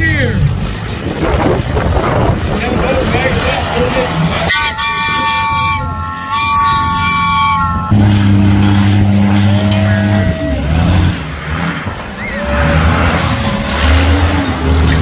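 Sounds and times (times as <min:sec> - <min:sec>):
diesel trucks driving: 0:00.0 - 0:15.0
low-pitched drone: 0:02.1 - 0:15.0.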